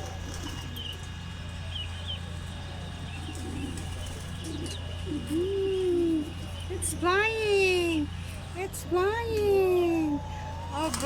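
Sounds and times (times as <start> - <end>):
pigeons cooing: 0.0 - 8.5, 9.3 - 11.0
birds chirping: 0.0 - 11.0.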